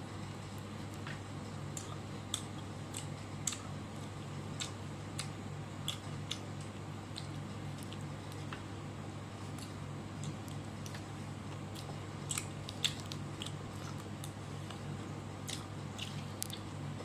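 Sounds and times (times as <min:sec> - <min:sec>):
steady low hum: 0:00.0 - 0:17.0
mouth clicks and smacks of chewing: 0:01.0 - 0:08.7, 0:09.5 - 0:14.8, 0:15.4 - 0:16.7.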